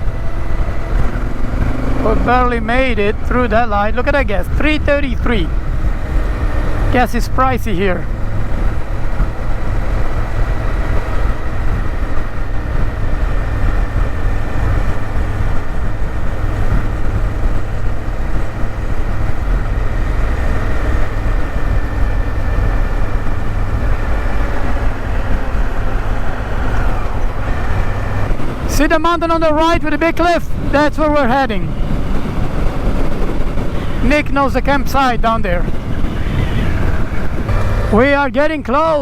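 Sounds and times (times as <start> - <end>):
motorcycle engine rumble: 0.0 - 39.0
wind and road noise: 0.0 - 39.0.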